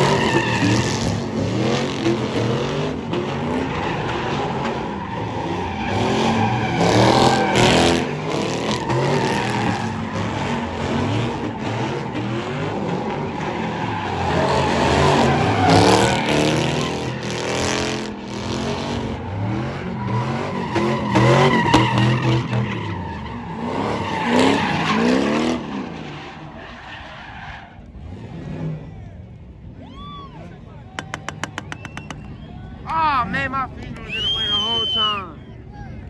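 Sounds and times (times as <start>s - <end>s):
tyres skidding and squealing: 0.0s - 35.7s.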